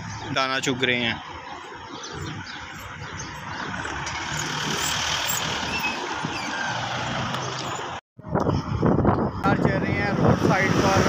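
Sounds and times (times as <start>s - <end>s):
vehicle engine hum: 0.0s - 9.3s.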